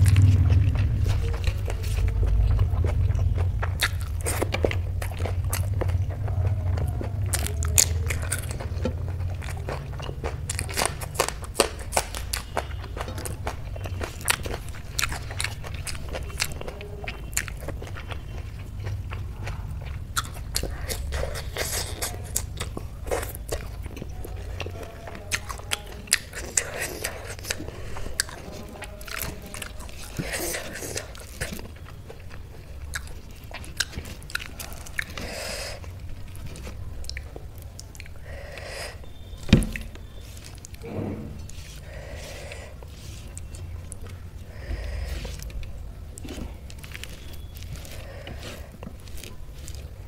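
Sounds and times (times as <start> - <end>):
close chewing with wet clicks: 0.0 - 50.0.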